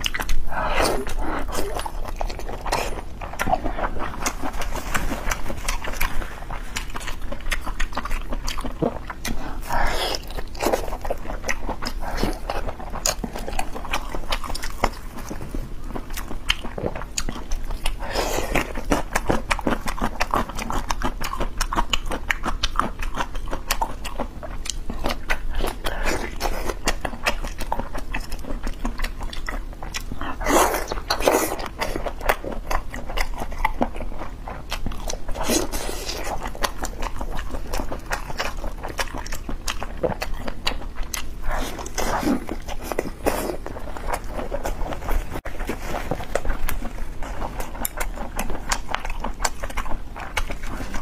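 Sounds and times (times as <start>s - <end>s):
person chewing with wet smacks: 0.0s - 51.0s.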